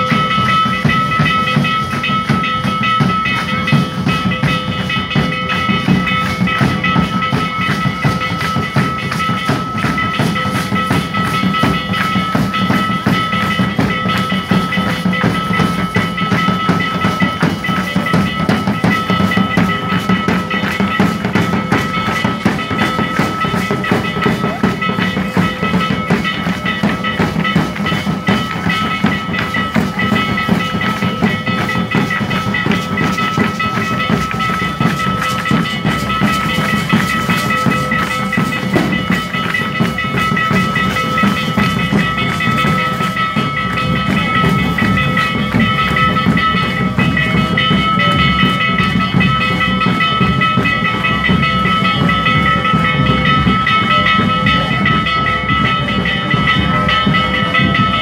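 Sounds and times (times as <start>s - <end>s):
bass drums beating: 0.0s - 58.0s.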